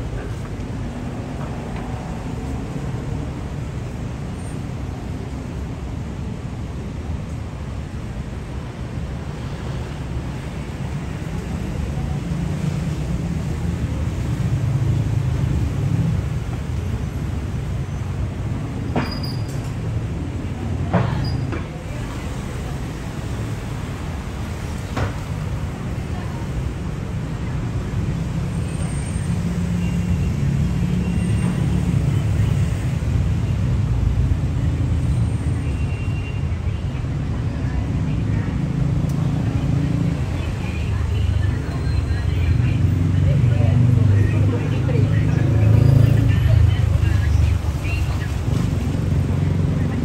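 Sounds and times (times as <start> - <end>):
heavy vehicle engine rumble: 0.0 - 50.0
road traffic: 0.0 - 50.0.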